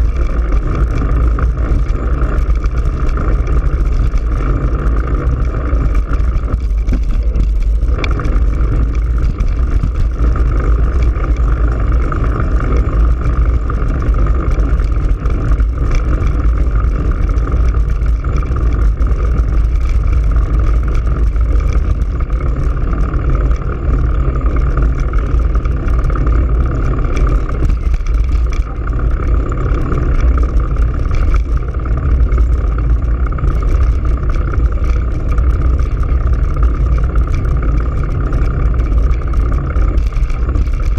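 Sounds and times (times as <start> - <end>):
tyre and road noise: 0.0 - 40.9
wind rumble on microphone: 0.0 - 40.9.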